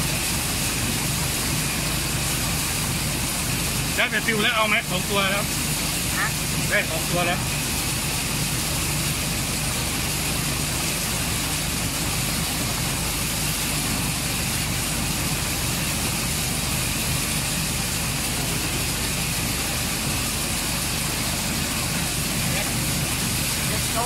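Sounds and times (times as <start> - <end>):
motor humming with hiss: 0.0 - 24.0.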